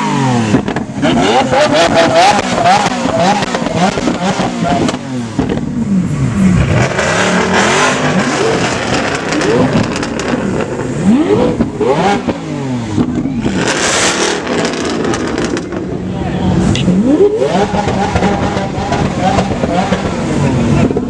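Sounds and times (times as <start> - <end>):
car engine revving: 0.0 - 21.0
exhaust cracks: 0.2 - 21.0.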